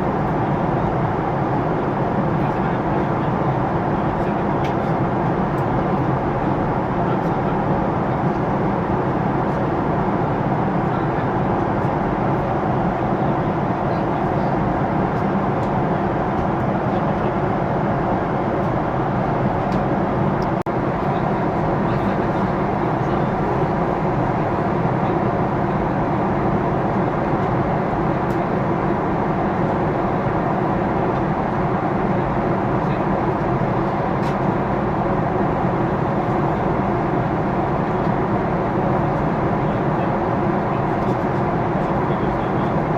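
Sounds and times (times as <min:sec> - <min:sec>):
airliner cabin engine and airflow noise: 0:00.0 - 0:42.9.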